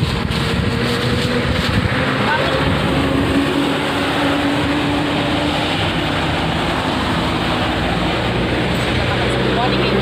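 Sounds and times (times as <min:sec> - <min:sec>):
road traffic rushing: 0:00.0 - 0:10.0
vehicle engine hum: 0:00.0 - 0:10.0.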